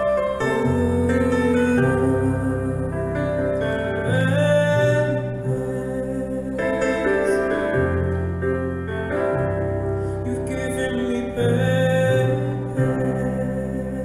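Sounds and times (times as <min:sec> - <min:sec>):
young man singing: 0:00.0 - 0:08.1, 0:10.2 - 0:14.0
slow piano accompaniment: 0:00.0 - 0:14.0.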